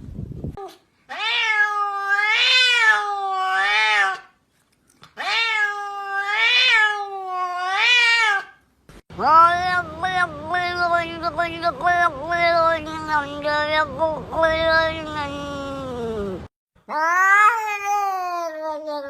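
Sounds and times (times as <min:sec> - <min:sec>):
cat meowing: 0:01.1 - 0:04.3, 0:05.2 - 0:08.6, 0:09.2 - 0:19.0.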